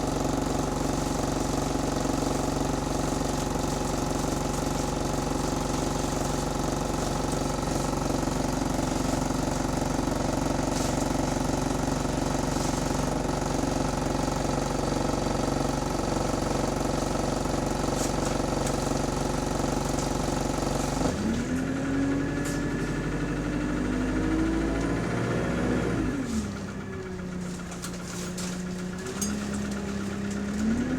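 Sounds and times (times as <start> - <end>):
bus diesel engine: 0.0 - 30.9.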